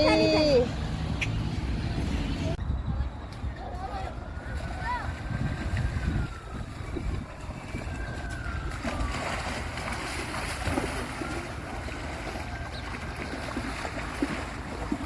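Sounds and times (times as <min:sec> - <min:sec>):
wind on the microphone: 0:01.8 - 0:15.0.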